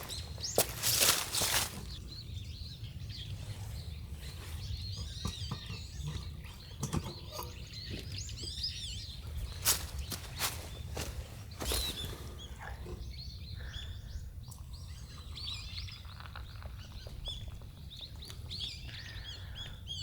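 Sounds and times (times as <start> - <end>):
songbirds chirping and twittering: 0.0 - 20.0.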